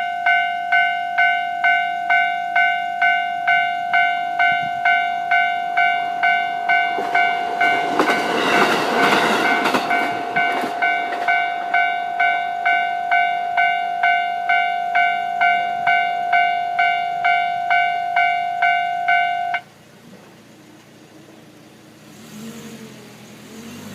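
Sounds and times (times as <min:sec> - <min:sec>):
level-crossing warning bell ringing: 0:00.0 - 0:19.8
train rumble and wheel noise: 0:00.0 - 0:23.9.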